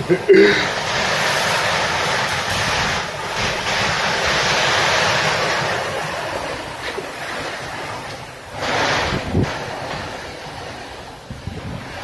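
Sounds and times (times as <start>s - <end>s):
heavy rain: 0.0s - 12.0s
strong wind: 0.0s - 12.0s
wind buffeting microphone: 0.0s - 12.0s.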